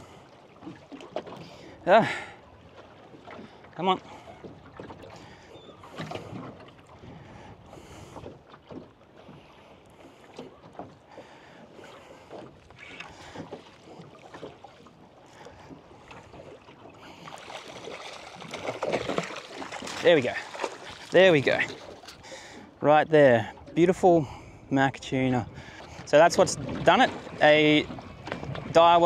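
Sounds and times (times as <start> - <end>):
water: 0.0 - 29.0
wind: 0.0 - 29.0.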